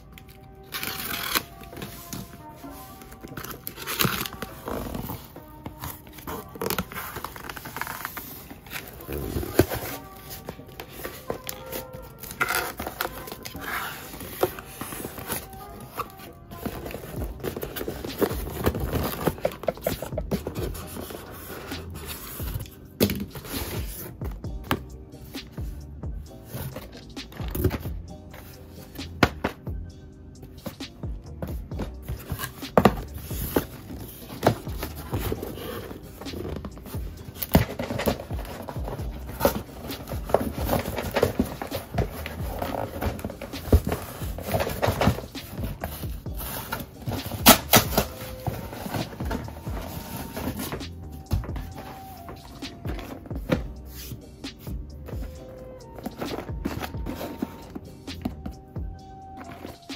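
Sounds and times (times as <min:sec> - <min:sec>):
background music: 0:00.0 - 0:59.9.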